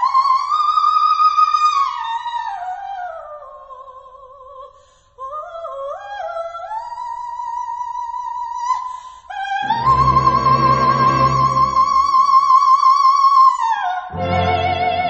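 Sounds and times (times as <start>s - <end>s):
woman singing opera: 0.0s - 15.0s.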